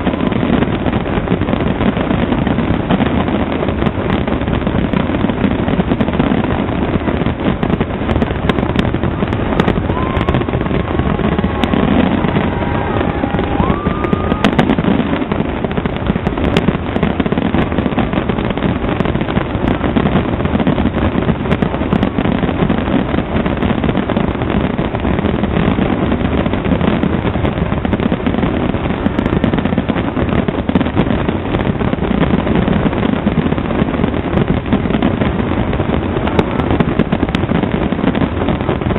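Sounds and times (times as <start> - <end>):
fireworks bursting and crackling: 0.0 - 38.9
fireworks whistling: 0.0 - 38.9.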